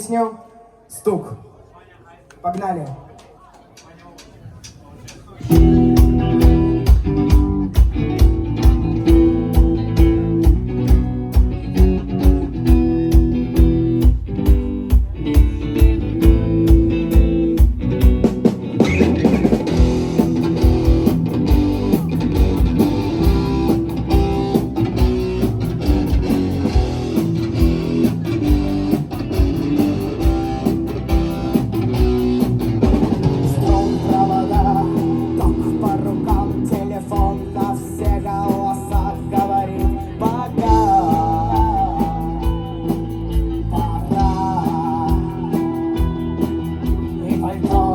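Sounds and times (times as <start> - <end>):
steady drum beat: 4.1 - 47.9
rock band playing live: 5.4 - 47.9
electric guitar playing: 5.5 - 47.9.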